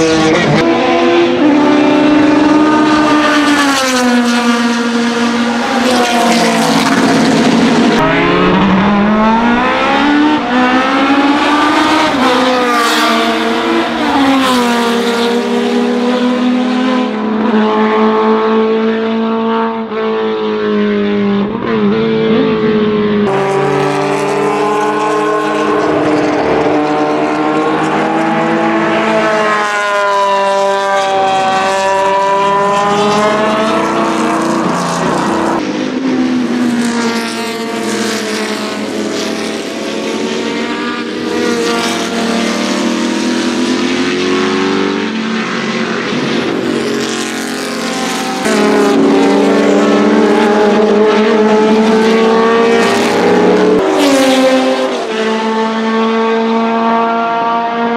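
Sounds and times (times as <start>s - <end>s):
racing cars passing at full throttle: 0.0s - 57.9s.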